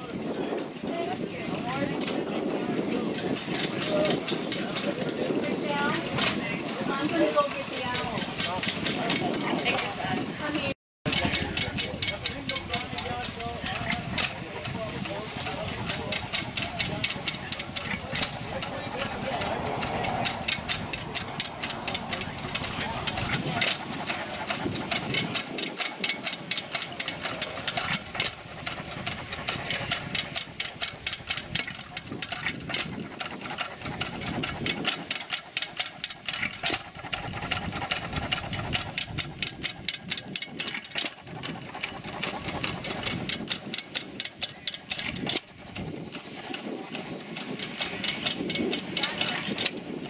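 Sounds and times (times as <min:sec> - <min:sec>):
mechanical clatter: 0:01.6 - 0:50.0.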